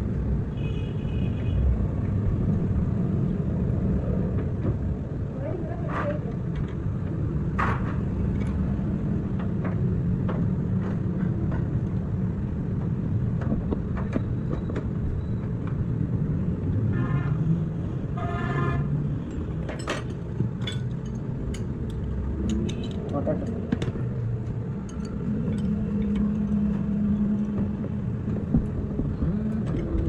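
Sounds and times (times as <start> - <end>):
traffic engines rumbling: 0.0 - 30.0.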